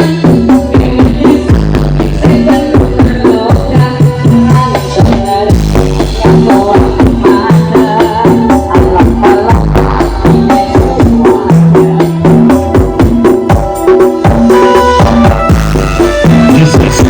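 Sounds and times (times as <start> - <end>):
loud bass-heavy dance music: 0.0 - 17.0.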